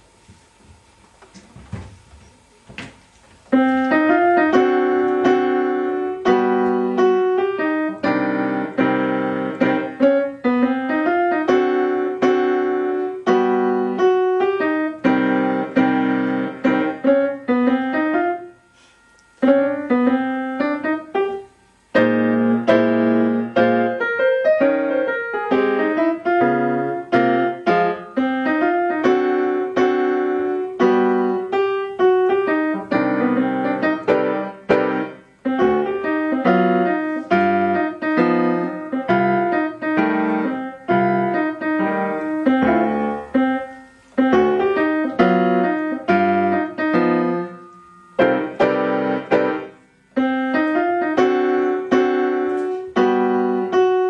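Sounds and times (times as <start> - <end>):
solo grand piano: 0.0 - 54.0.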